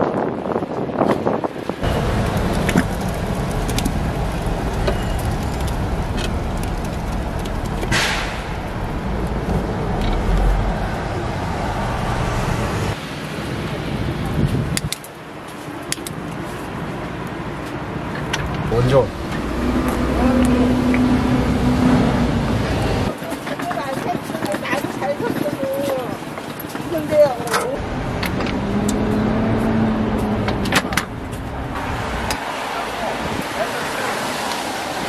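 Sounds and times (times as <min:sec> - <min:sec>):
passing traffic: 0:00.0 - 0:35.0.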